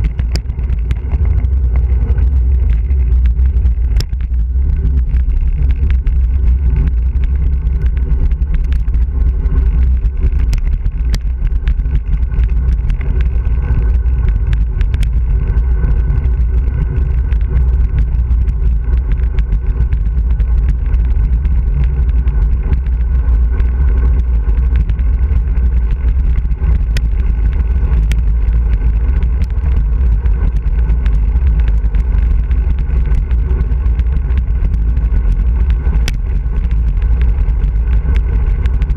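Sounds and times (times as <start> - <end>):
tyre noise on asphalt: 0.0 - 38.9
wind buffeting microphone: 0.0 - 38.9.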